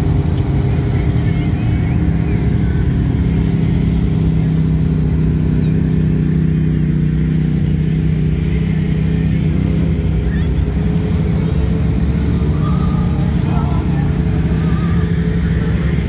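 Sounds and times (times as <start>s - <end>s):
engines droning low: 0.0s - 16.0s.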